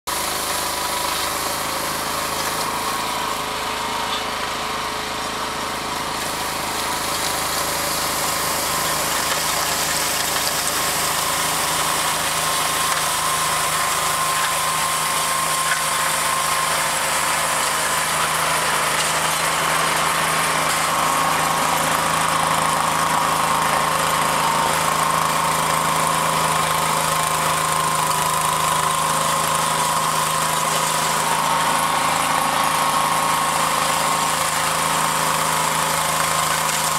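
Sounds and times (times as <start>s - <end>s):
snowblower engine running: 0.0s - 36.9s.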